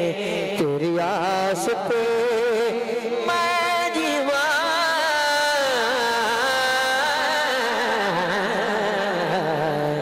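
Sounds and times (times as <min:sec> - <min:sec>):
boy singing into a microphone: 0:00.0 - 0:10.0.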